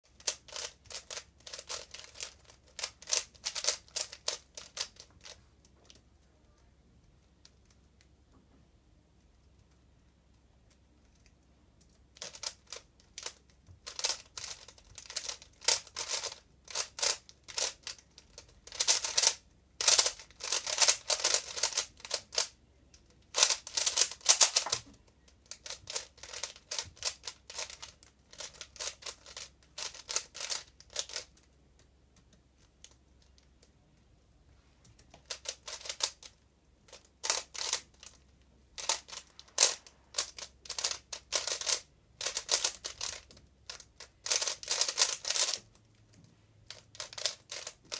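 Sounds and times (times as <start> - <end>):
puzzle cube plastic clicks: 0.1 - 8.1, 10.7 - 33.8, 34.8 - 47.9.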